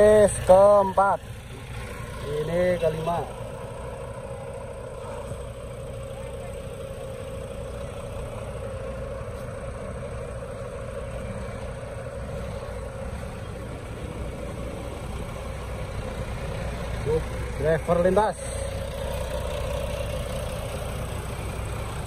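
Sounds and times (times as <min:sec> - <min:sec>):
bus diesel engines rumbling: 0:00.0 - 0:22.0.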